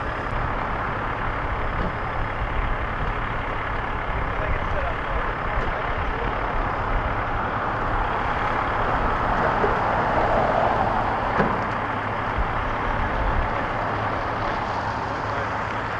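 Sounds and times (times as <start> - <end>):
vehicle engines running: 0.0 - 15.9.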